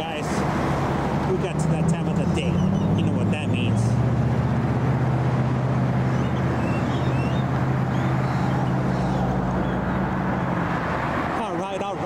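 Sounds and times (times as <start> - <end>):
low engine drone: 0.0 - 11.2.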